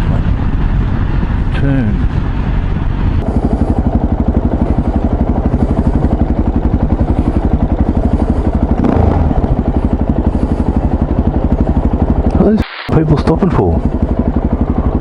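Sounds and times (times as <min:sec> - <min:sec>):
motorcycle engine running low revs: 0:00.0 - 0:15.0.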